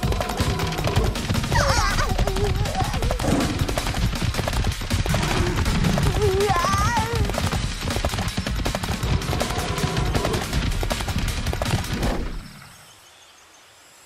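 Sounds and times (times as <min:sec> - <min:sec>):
rapid crackling cartoon clatter: 0:00.0 - 0:12.5.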